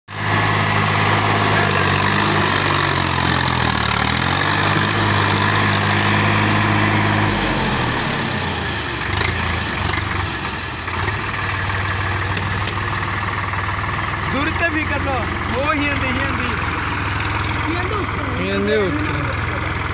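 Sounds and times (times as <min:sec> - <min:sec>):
tractor diesel engine revving: 0:00.1 - 0:19.9.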